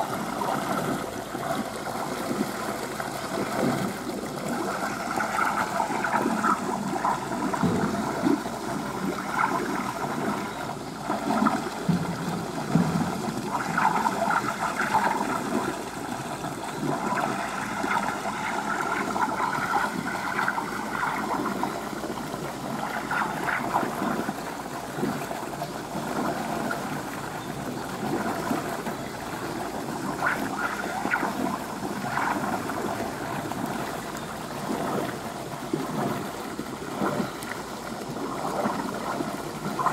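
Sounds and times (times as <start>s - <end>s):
water rushing in a pool: 0.0s - 39.9s.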